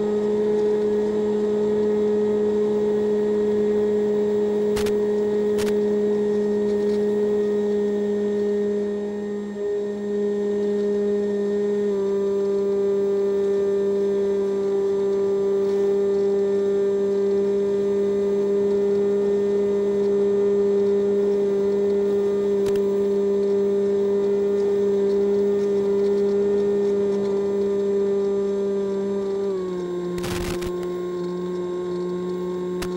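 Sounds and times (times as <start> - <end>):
model plane electric motor whine: 0.0 - 32.9.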